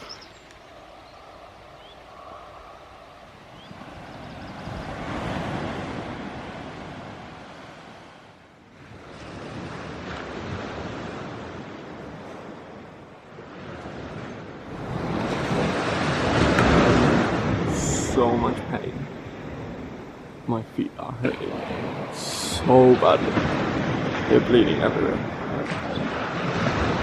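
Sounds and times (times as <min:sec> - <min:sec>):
rushing wind or surf: 0:00.0 - 0:27.0.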